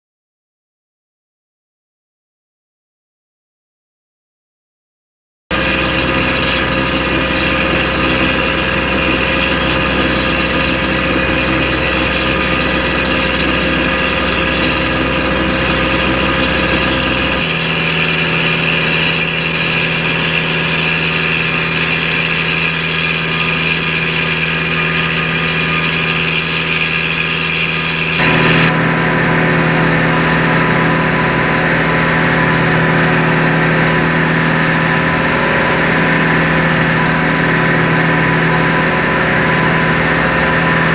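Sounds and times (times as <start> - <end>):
boat engine running: 5.5 - 40.9.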